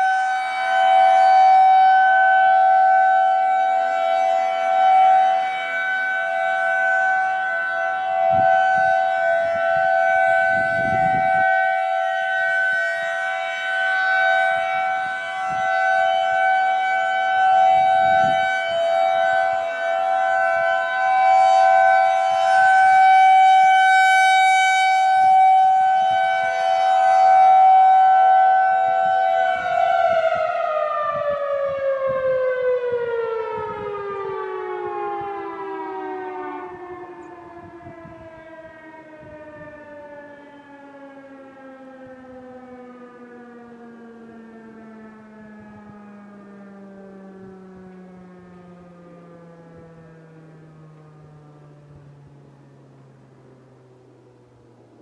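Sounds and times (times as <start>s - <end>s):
dual-tone warning siren: 0.0s - 55.0s.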